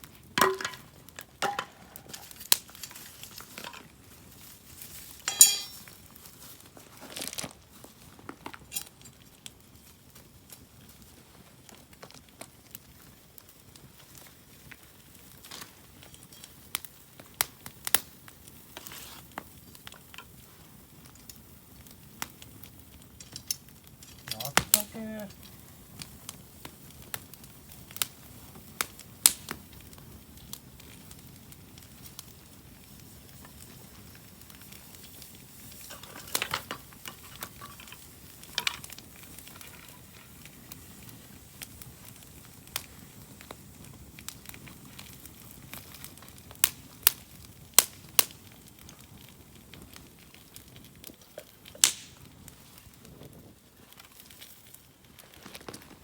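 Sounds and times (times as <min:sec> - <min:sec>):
sharp pops from fire: 0:00.0 - 0:56.0
wood bonfire crackling: 0:00.0 - 0:56.0.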